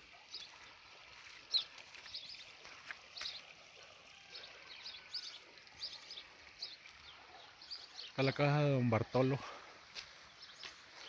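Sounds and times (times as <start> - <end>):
creek trickling: 0.0 - 11.0.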